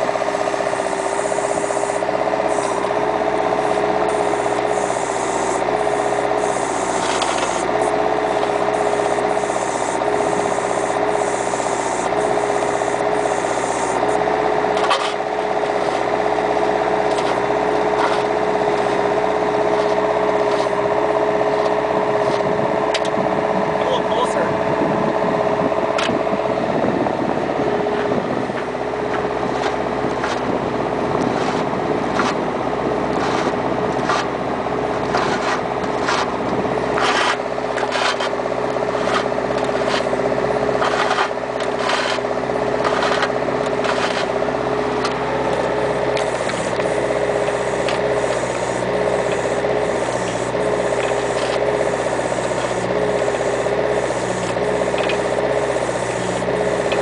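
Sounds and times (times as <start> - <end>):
engine whine: 0.0 - 57.0
mini excavator engine running: 0.0 - 57.0.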